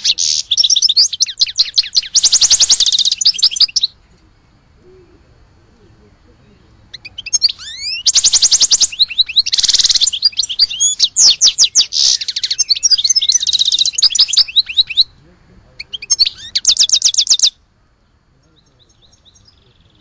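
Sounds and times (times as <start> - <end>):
songbird singing trills: 0.0 - 20.0.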